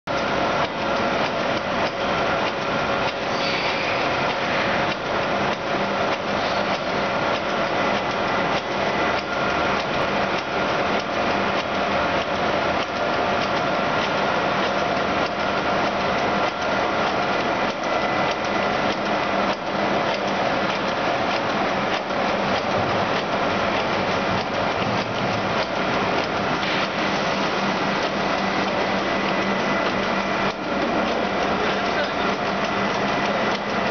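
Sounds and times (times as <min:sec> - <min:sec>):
industrial machine hum: 0:00.1 - 0:33.9.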